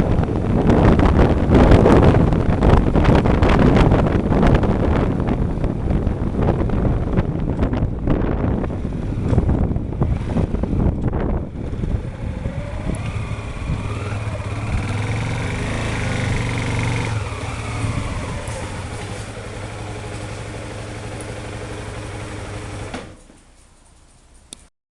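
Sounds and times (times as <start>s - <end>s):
wind buffeting microphone: 0.0s - 21.1s
motorcycle engine running: 0.0s - 23.2s.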